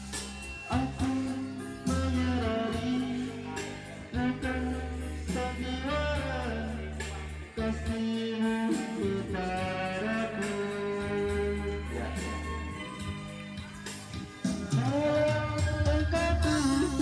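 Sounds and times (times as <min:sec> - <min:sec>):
deep bass line: 0:00.0 - 0:17.0
guitar: 0:00.0 - 0:17.0
person singing: 0:00.0 - 0:17.0.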